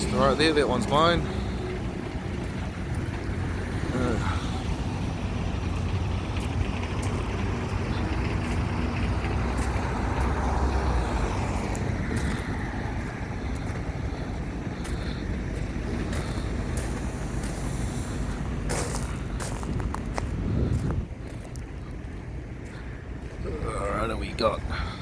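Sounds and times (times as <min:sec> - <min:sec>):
truck engine rumbling: 0:00.0 - 0:25.0.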